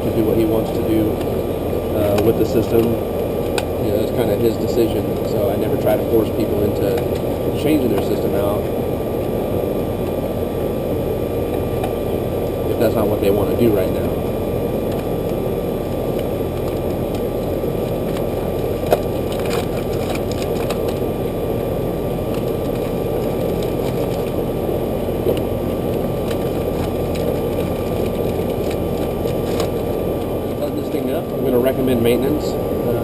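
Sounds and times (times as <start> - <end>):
air conditioner unit running: 0.0 - 33.0.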